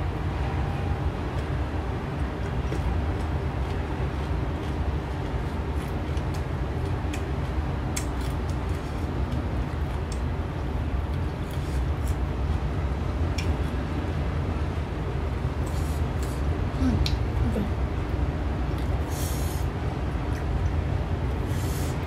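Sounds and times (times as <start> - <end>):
low background rumble: 0.0 - 22.0
crunching and chewing fruit: 1.3 - 14.6, 15.4 - 21.8.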